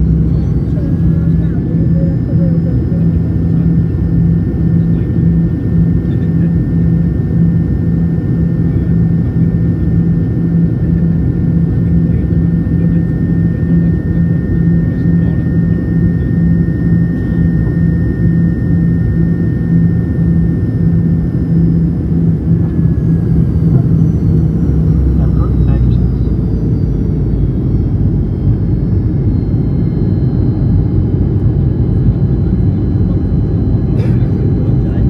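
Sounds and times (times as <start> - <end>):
jet engine roar in cabin: 0.0 - 35.0.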